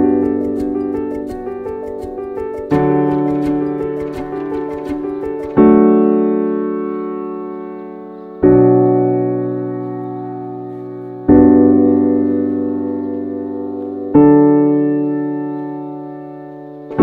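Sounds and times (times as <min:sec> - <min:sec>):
slow piano chords ringing: 0:00.0 - 0:17.0.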